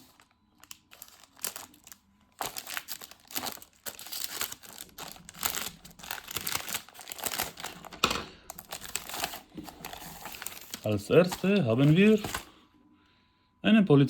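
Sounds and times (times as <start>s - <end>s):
plastic ripping: 0.0s - 12.5s
plastic packaging crinkling: 0.0s - 12.6s.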